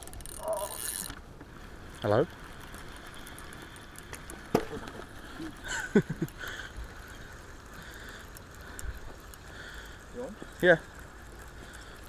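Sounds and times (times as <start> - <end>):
fishing reel winding: 0.0 - 4.4, 5.2 - 12.0.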